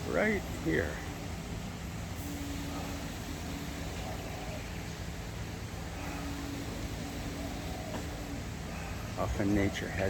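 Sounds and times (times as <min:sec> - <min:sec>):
low hum and rumble: 0:00.0 - 0:10.0.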